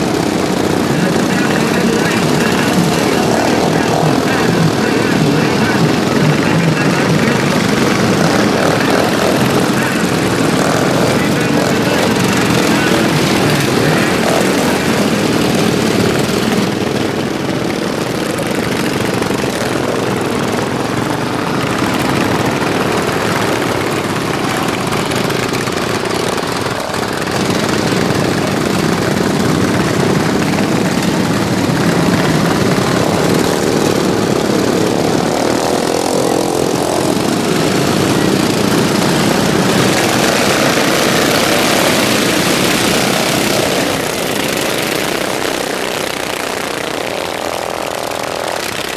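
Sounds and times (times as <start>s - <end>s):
racing lawnmower engines buzzing: 0.0s - 48.9s.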